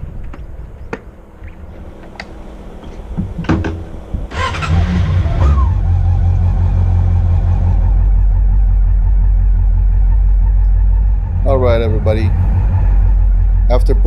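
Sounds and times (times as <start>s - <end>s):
motorcycle engine starting and idling: 1.2s - 14.0s.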